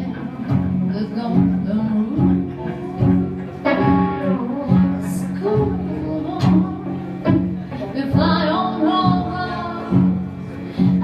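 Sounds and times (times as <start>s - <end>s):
blues band playing: 0.0s - 11.0s
electric guitar: 0.0s - 11.0s.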